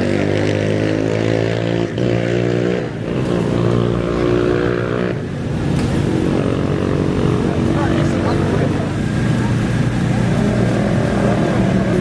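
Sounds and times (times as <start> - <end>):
race engine idling and revving: 0.0 - 12.0.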